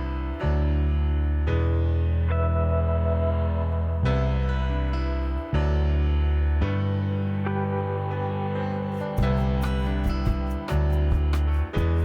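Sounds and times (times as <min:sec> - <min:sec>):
instrumental music with held chords: 0:00.0 - 0:12.0.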